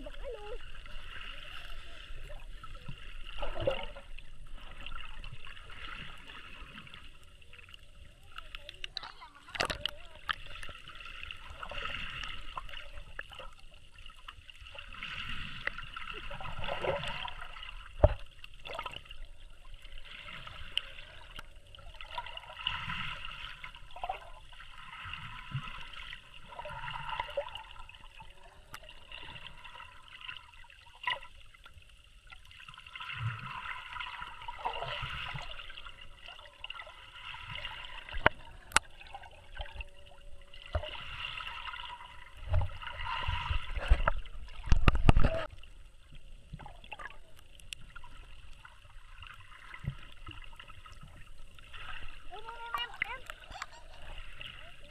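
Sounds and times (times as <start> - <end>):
muffled underwater water gurgling: 0.0 - 54.9.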